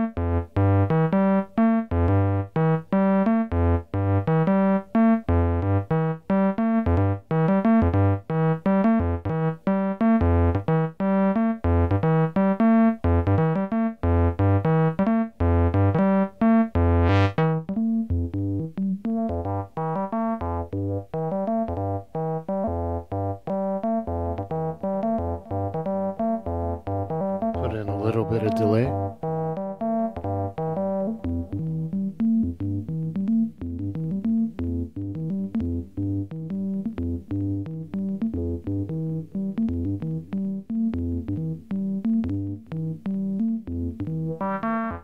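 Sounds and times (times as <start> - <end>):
synthesizer sequenced notes: 0.0 - 45.0.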